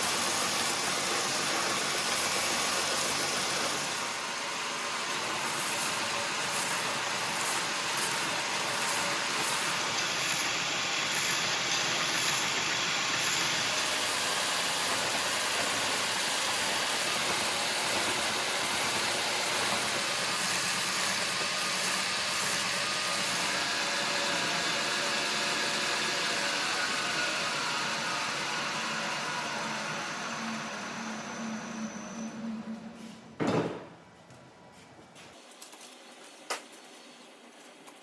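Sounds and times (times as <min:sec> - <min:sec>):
electric grinder grinding metal: 0:00.0 - 0:32.3.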